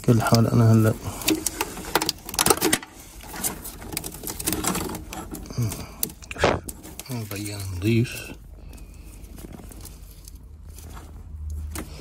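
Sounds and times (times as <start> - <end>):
plastic connectors clicking and rattling: 0.0 - 12.0.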